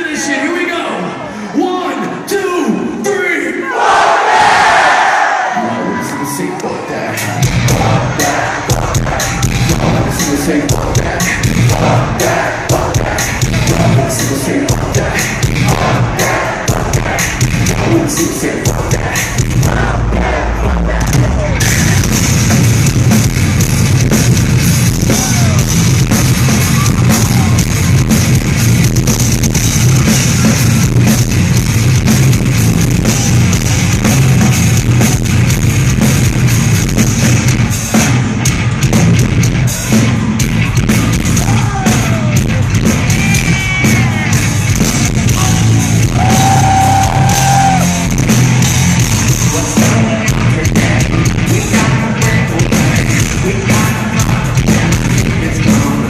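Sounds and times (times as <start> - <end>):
live heavy metal band playing: 7.2 - 56.0.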